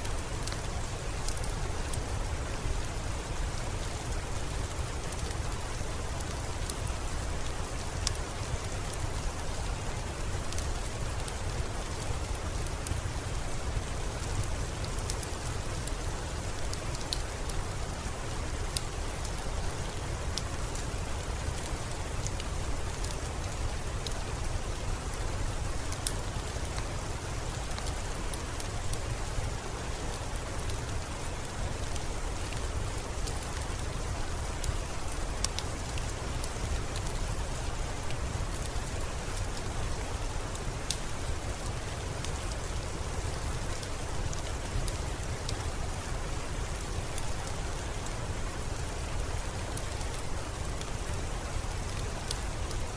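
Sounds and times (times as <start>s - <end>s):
steady rainfall: 0.0s - 52.9s.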